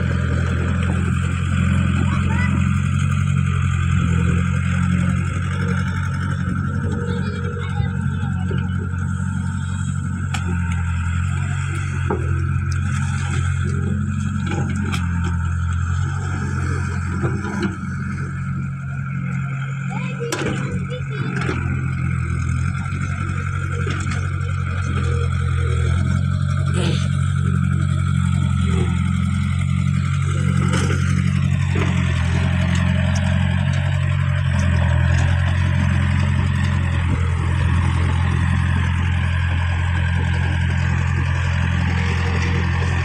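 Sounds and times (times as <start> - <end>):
excavator diesel engine droning: 0.0 - 43.0.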